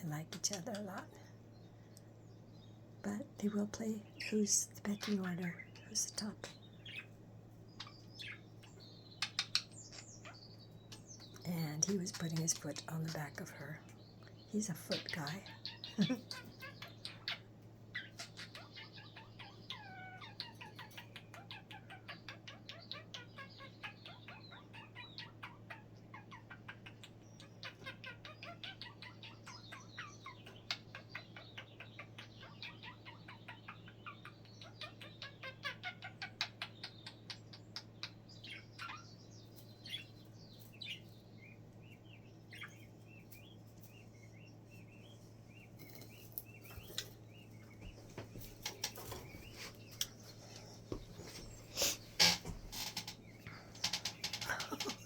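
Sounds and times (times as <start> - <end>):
budgerigars chattering and warbling: 3.1 - 55.0.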